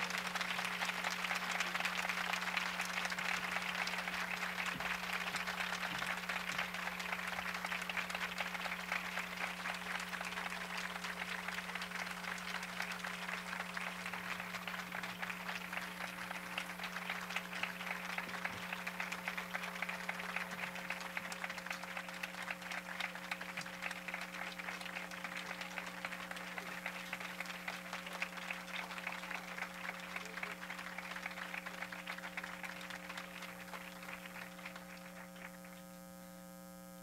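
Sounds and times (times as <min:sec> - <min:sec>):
audience applauding: 0:00.0 - 0:35.8
low electrical hum: 0:00.0 - 0:37.0.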